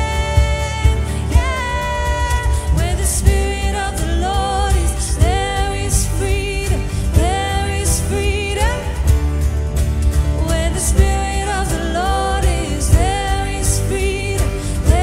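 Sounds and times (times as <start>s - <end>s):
worship song with band: 0.0s - 15.0s.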